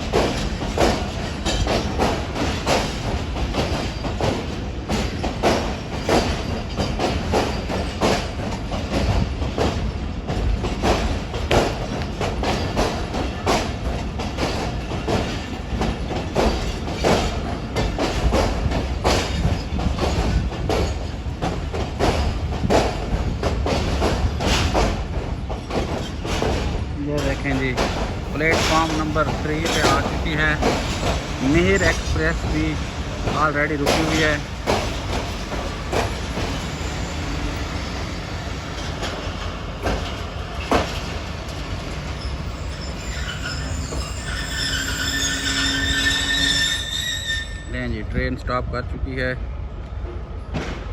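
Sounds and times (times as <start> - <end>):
train wheels clacking over rail joints: 0.0 - 47.4.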